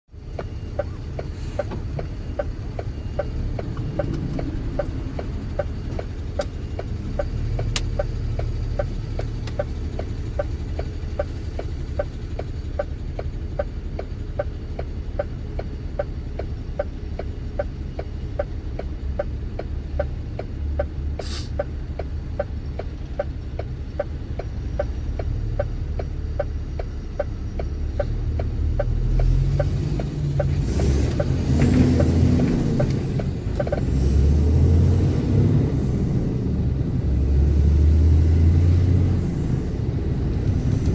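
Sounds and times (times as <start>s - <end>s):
truck engine rumbling: 0.1s - 40.9s
even ticking: 0.3s - 21.0s, 21.6s - 34.1s.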